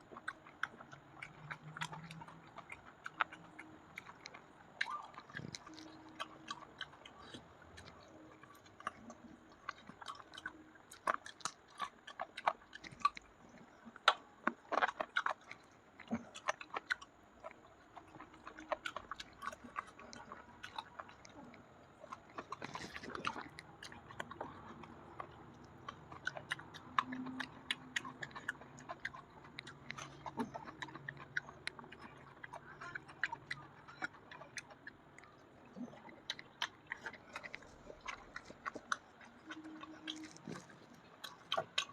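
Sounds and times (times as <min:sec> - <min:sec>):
person chewing and eating: 0:00.0 - 0:41.9.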